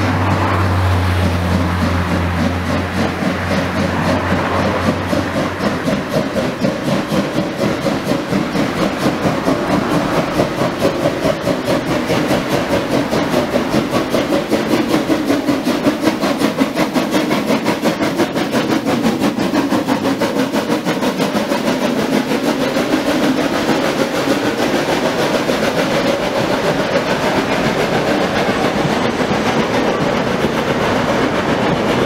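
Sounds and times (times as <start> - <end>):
steam locomotive exhaust beating: 0.0 - 32.0.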